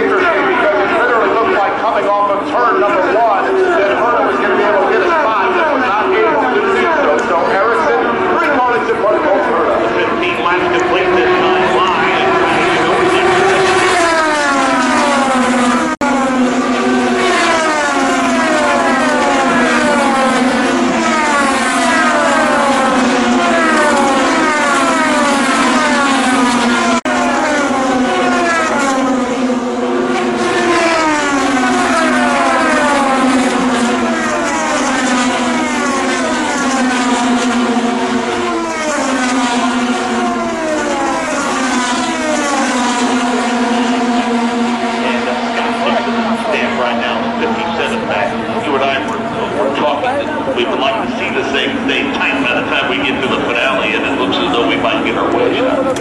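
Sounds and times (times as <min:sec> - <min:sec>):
race cars sweeping past: 0:00.0 - 0:56.0.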